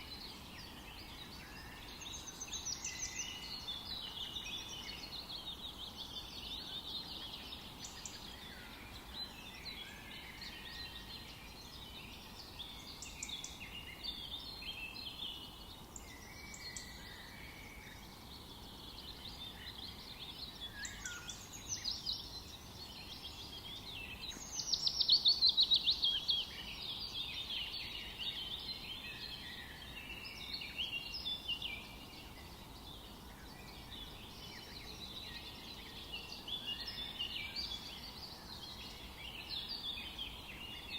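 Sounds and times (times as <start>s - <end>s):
faint background hiss: 0.0s - 40.9s
songbirds singing and chirping: 0.0s - 40.9s.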